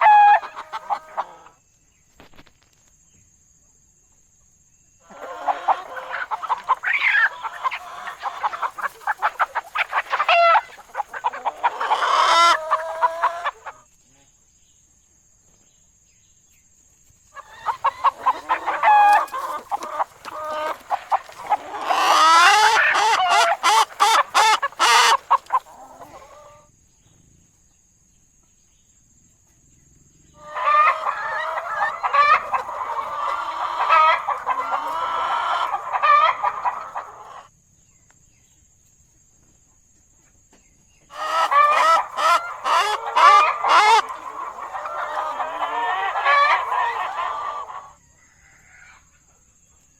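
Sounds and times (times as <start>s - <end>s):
chickens clucking: 0.0s - 2.7s, 3.6s - 14.0s, 17.2s - 26.7s, 29.6s - 37.5s, 39.4s - 49.9s.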